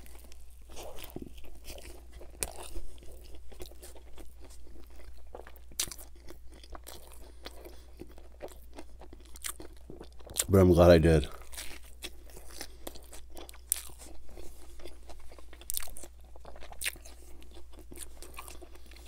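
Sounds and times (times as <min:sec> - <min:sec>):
wet chewing: 0:00.0 - 0:10.5, 0:11.3 - 0:19.0
biting and crunching: 0:00.0 - 0:19.0.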